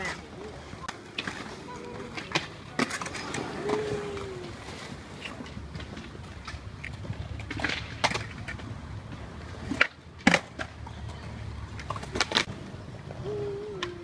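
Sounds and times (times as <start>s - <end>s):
skateboard wheels rolling on concrete: 0.0s - 14.0s
skateboards clacking on ground: 0.0s - 14.0s.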